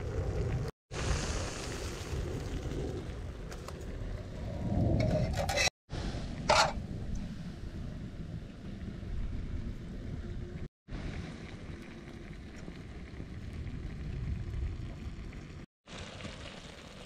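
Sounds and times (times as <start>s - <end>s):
wind rumbling on microphone: 0.0s - 15.6s.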